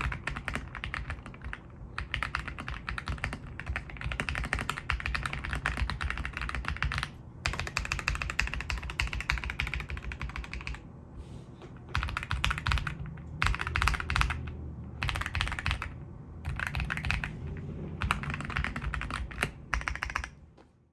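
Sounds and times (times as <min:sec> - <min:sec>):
mechanical keyboard typing: 0:00.0 - 0:10.8, 0:11.8 - 0:20.4.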